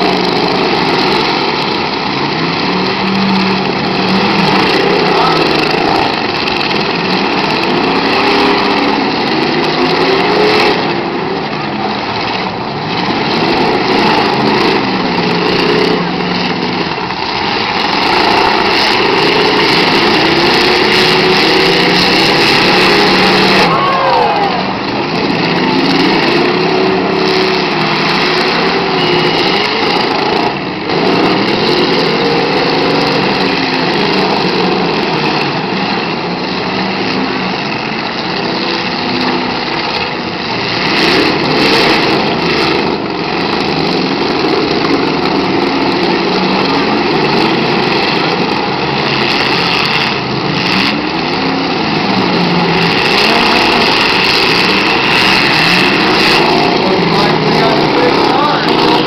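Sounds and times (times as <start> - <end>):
cars knocking together: 0.0 - 59.0
many car engines revving: 0.0 - 59.0.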